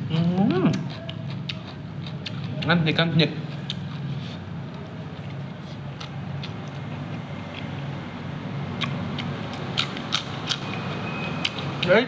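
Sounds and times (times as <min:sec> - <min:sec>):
man chewing: 0:00.0 - 0:02.8, 0:03.4 - 0:07.8, 0:08.7 - 0:12.0.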